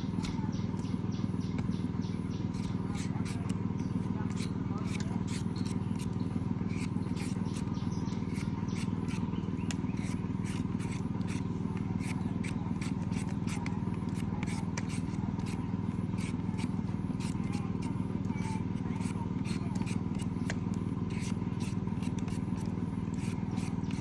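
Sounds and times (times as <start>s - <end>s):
steady low hum: 0.0s - 24.0s
short clicks and scrapes: 2.5s - 24.0s.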